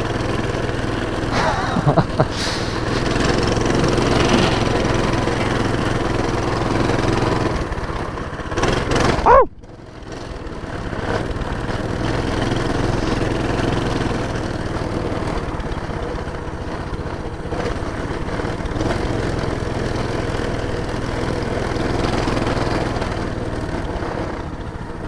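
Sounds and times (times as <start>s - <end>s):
small four-stroke engine running: 0.0s - 25.0s.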